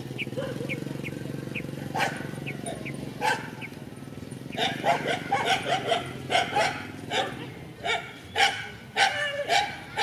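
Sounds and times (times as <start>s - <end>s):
dogs barking: 0.1s - 3.7s, 4.4s - 10.0s.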